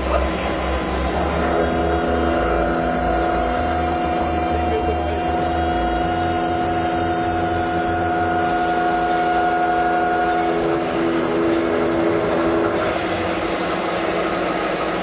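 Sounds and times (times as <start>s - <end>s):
milling machine cutting metal: 0.0s - 15.0s.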